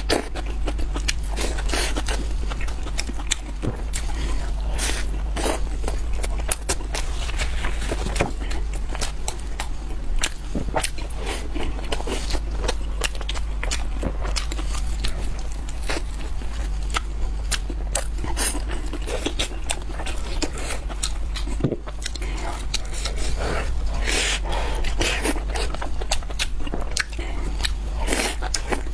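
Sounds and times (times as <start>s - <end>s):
crunching crisp food: 0.0s - 28.9s
faint low hum: 0.0s - 28.9s.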